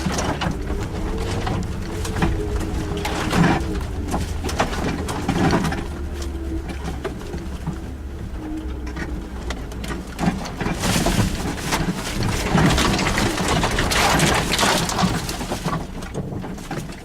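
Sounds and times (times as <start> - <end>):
crunching and rattling: 0.0 - 17.0
low engine rumble: 0.0 - 17.0.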